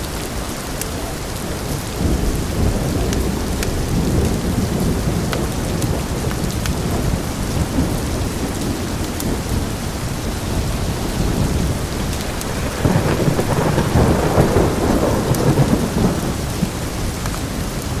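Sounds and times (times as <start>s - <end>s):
heavy rain: 0.0s - 18.0s
wood fire crackling: 0.0s - 18.0s
rolling thunder: 0.8s - 18.0s.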